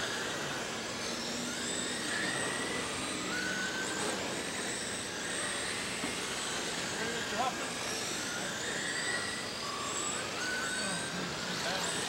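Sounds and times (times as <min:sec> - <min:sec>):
remote control car motors whining: 0:00.0 - 0:12.0.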